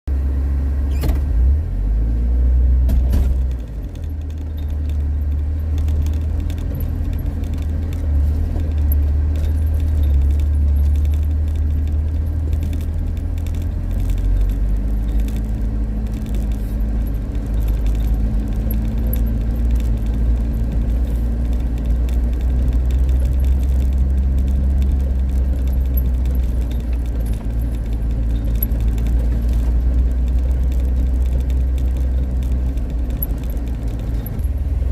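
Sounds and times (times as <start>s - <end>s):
car engine and road rumble: 0.0s - 34.9s
keys jingling and rattling: 3.7s - 34.7s.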